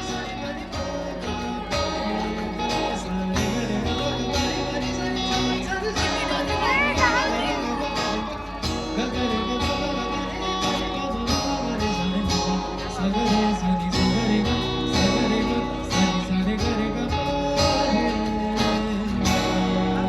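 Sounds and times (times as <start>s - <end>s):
acoustic guitar strumming: 0.0s - 20.0s
person singing: 0.0s - 20.0s.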